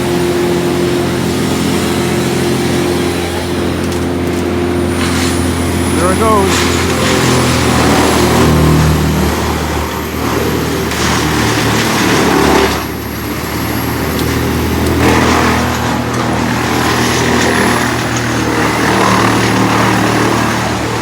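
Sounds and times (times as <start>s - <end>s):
diesel engines running: 0.0s - 21.0s
wood chipper grinding: 0.0s - 21.0s.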